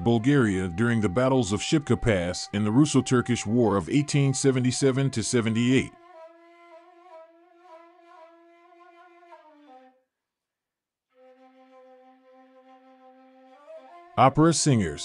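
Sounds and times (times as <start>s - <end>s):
faint wind instrument music: 0.0s - 10.0s, 11.2s - 15.0s.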